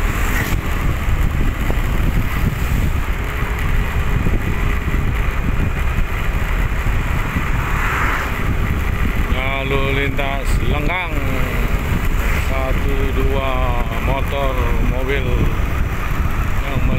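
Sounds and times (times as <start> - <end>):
engine and tyre noise: 0.0 - 16.9
wind buffeting the microphone: 0.0 - 16.9.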